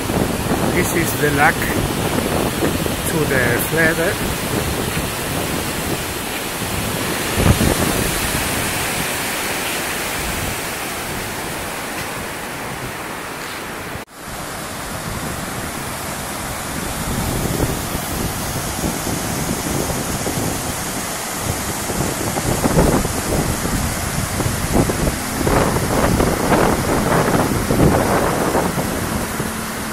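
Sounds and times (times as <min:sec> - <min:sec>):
water rushing over weir: 0:00.0 - 0:29.9.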